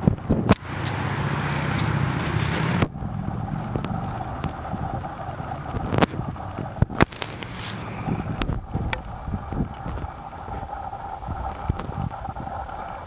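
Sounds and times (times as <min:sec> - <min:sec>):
wind rumbling on microphone: 0:00.0 - 0:13.0
hiss: 0:01.6 - 0:13.0.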